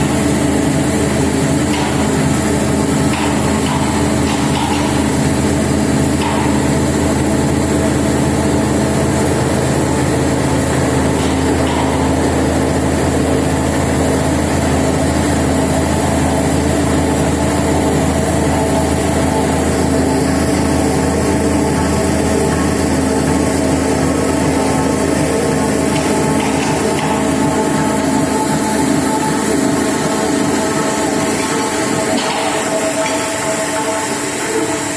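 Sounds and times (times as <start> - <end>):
milling machine drone: 0.0 - 34.9.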